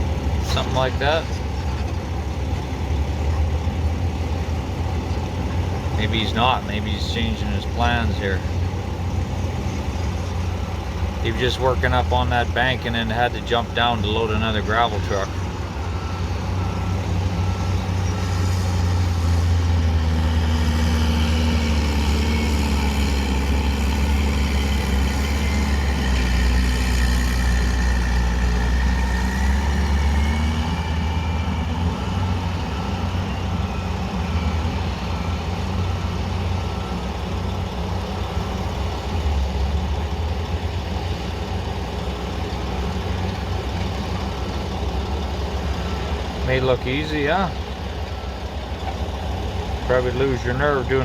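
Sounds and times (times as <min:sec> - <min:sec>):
diesel engines running under load: 0:00.0 - 0:51.0
reversing alarm beeping: 0:05.6 - 0:08.7, 0:10.4 - 0:40.0, 0:42.2 - 0:51.0.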